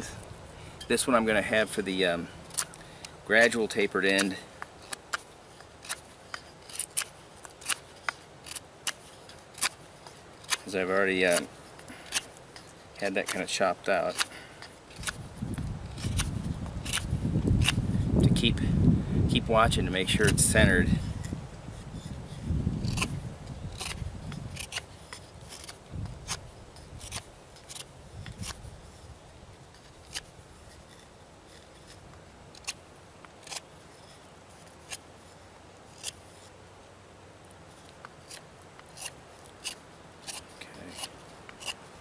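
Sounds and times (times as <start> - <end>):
knife shaving wood: 0.9 - 18.5, 19.4 - 36.6, 37.6 - 42.0.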